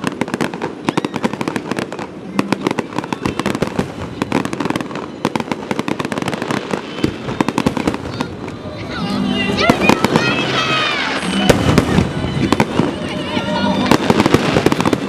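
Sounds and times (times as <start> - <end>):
fireworks cracking and popping: 0.0 - 15.0
people's voices: 0.0 - 15.0.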